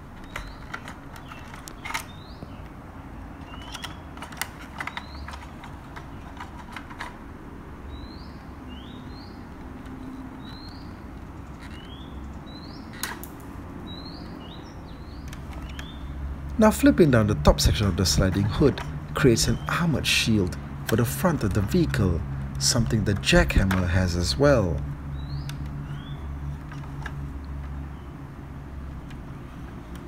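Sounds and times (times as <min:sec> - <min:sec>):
bird chirping: 0:00.0 - 0:07.0, 0:07.8 - 0:28.3.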